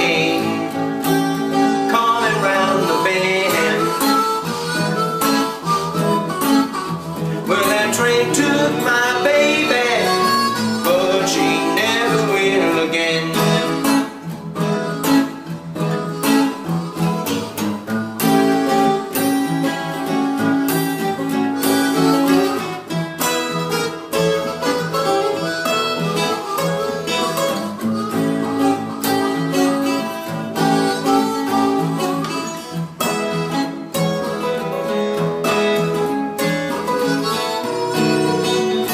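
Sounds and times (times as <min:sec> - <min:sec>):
harmonica wailing: 0:00.0 - 0:38.9
plucked guitar notes: 0:00.0 - 0:38.9.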